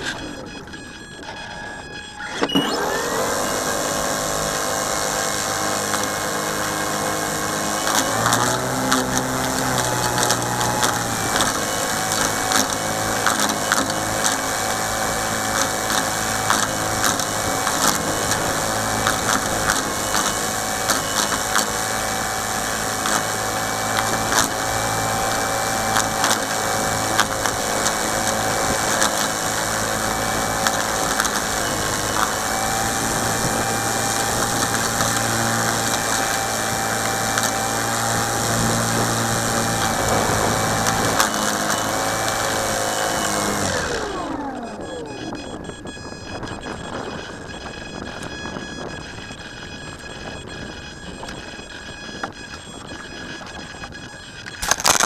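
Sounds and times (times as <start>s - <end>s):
small boat motor running: 0.0s - 55.0s.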